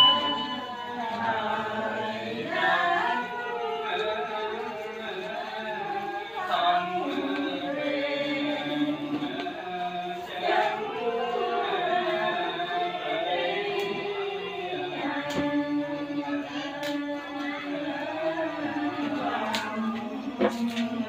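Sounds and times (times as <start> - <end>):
group chanting prayer: 0.0 - 21.0.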